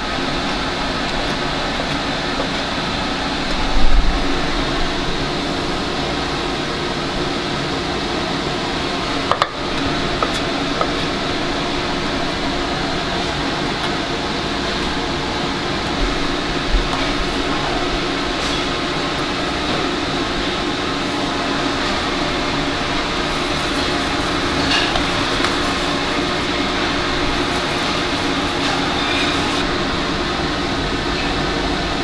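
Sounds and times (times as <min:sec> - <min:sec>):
ventilation fan humming: 0:00.0 - 0:32.0.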